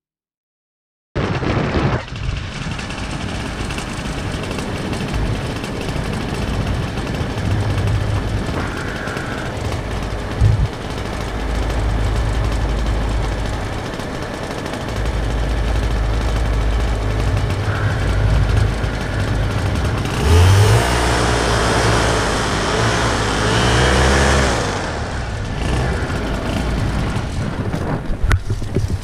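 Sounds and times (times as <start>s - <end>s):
wind buffeting microphone: 1.2s - 21.6s, 24.6s - 29.0s.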